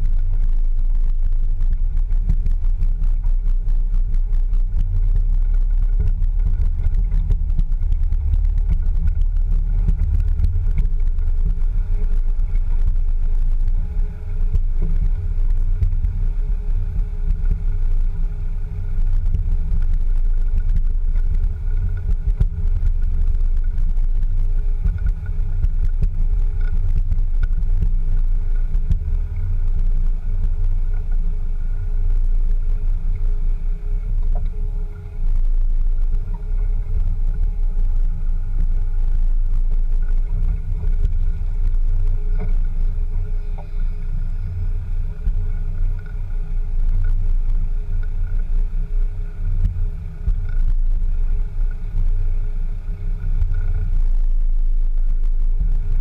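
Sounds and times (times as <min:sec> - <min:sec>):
vehicle rumbling over gravel: 0:00.0 - 0:48.8
faint steady hum: 0:00.0 - 0:56.0
stones ticking under tyres: 0:00.0 - 0:56.0
wind buffeting microphone: 0:00.0 - 0:56.0.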